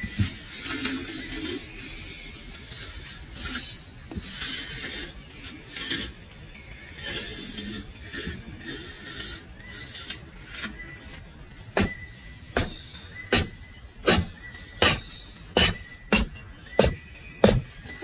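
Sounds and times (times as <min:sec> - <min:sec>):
hand saw cutting wood: 0:00.0 - 0:18.0.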